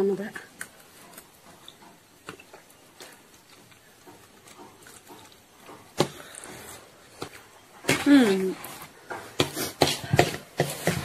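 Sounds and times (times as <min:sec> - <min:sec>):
noodles slurped and chewed: 0:00.6 - 0:11.0.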